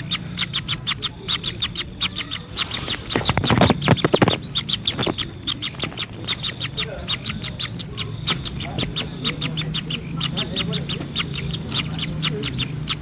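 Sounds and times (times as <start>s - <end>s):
birds chirping rapidly: 0.0s - 13.0s
high insect-like hiss: 0.0s - 13.0s.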